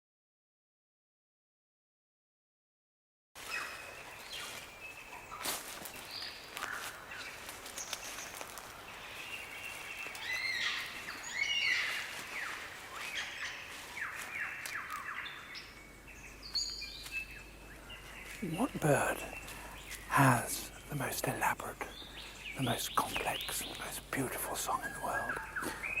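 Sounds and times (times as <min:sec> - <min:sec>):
forest birdsong: 0:03.4 - 0:26.0.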